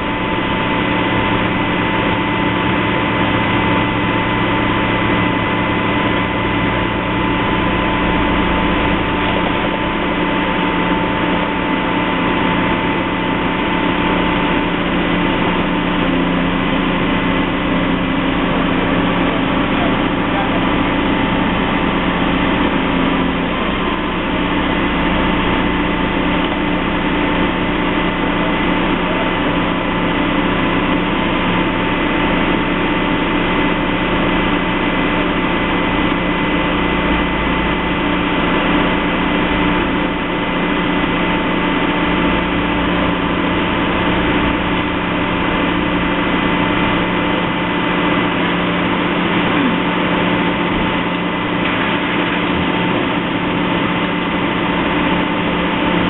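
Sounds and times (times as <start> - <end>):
heavy machinery engine droning: 0.0 - 56.0.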